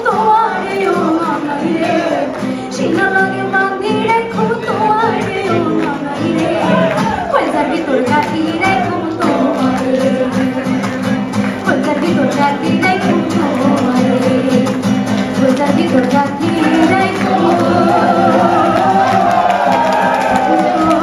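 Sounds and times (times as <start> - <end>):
acoustic guitar: 0.0 - 21.0
woman singing into microphone: 0.0 - 21.0.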